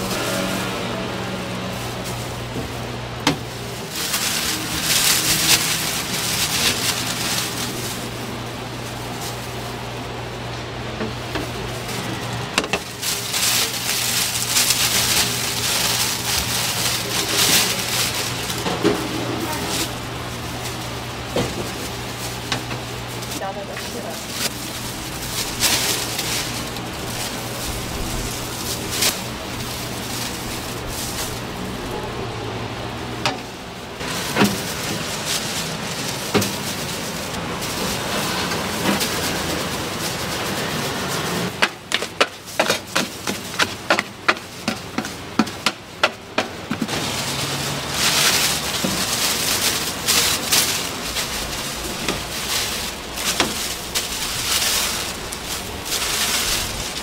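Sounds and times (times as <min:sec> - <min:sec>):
plastic bag rustling: 0:00.0 - 0:57.0.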